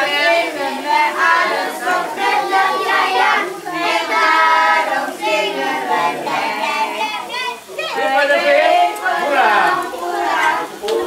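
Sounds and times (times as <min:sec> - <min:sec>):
children singing: 0:00.0 - 0:11.0
group singing: 0:00.0 - 0:11.0.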